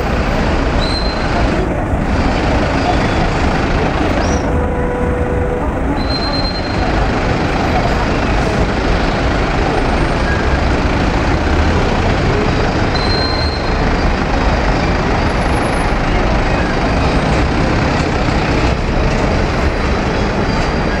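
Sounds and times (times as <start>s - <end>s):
car and truck engines: 0.0s - 21.0s
road noise rumble: 0.0s - 21.0s.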